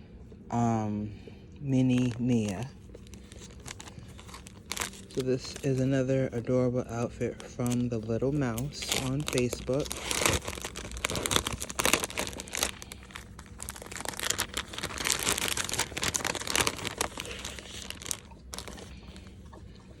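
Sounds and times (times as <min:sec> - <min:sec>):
packaging crinkling and rustling: 0:01.8 - 0:19.4.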